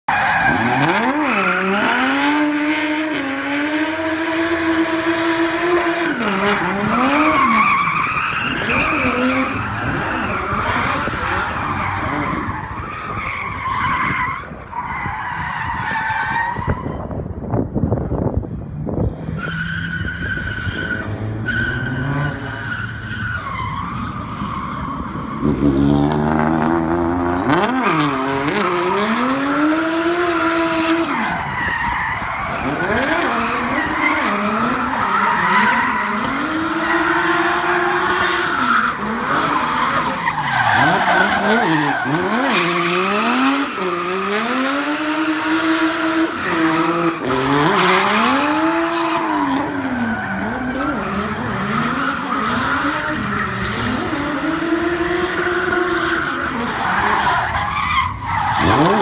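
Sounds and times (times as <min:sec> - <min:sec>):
car engine revving: 0:00.2 - 0:13.2, 0:18.8 - 0:31.4, 0:32.5 - 0:59.0.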